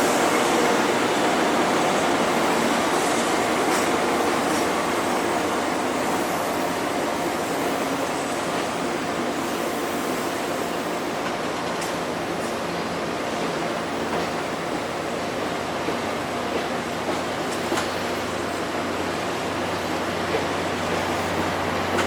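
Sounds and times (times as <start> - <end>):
train coach rolling on rails: 0.0 - 22.0.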